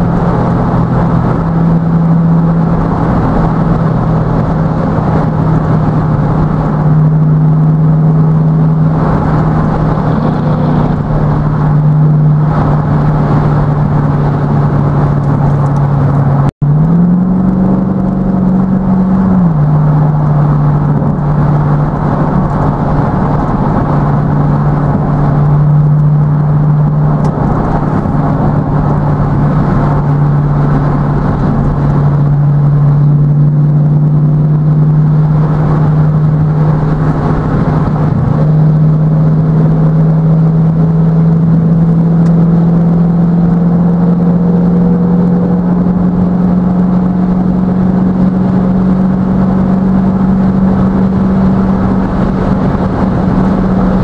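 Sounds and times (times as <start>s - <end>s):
car engine droning: 0.0s - 54.0s
road and tyre noise: 0.0s - 54.0s.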